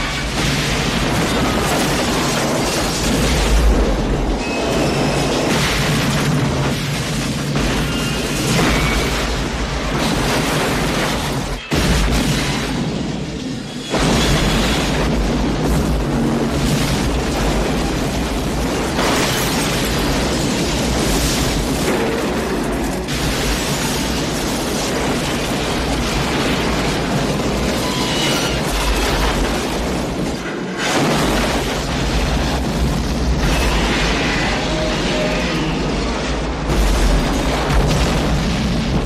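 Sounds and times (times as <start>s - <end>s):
explosions and booms: 0.0s - 39.0s.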